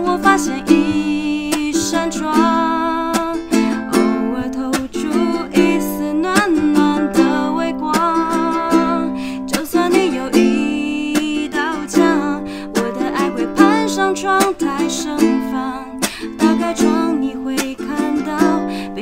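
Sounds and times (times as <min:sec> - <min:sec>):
ukulele strumming: 0:00.0 - 0:19.0
woman singing: 0:00.0 - 0:19.0.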